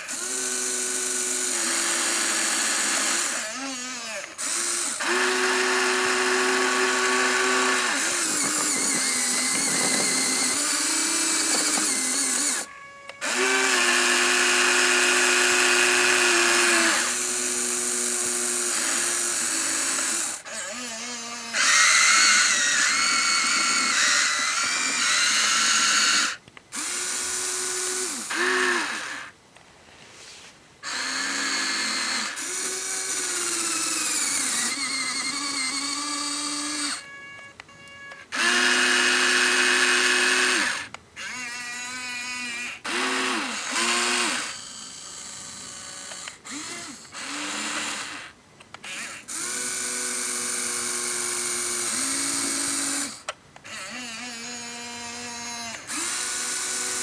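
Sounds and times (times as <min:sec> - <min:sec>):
electric motors whining: 0:00.0 - 0:29.4, 0:30.8 - 0:57.0.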